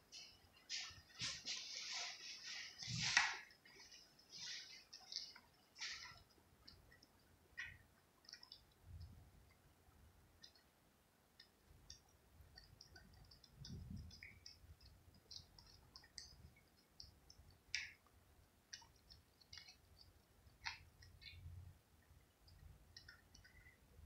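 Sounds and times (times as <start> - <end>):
cat licking and chewing: 3.6 - 10.7, 11.4 - 23.9.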